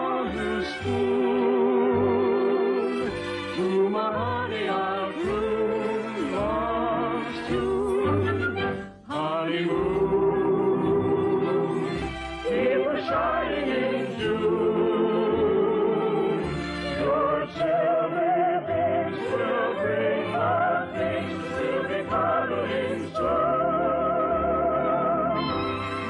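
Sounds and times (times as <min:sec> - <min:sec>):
orchestra playing: 0:00.2 - 0:09.1, 0:09.7 - 0:26.0
operetta singing with vibrato: 0:03.4 - 0:26.0.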